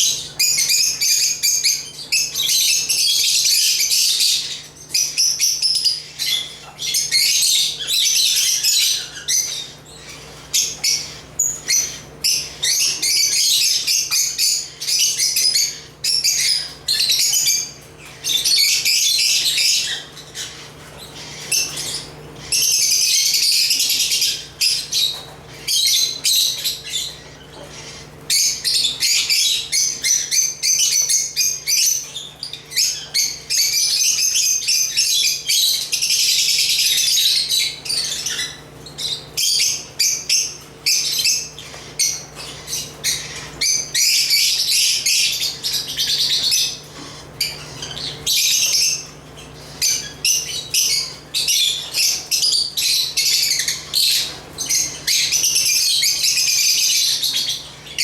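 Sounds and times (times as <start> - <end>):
lovebirds chirping and chattering: 0.0 - 58.0.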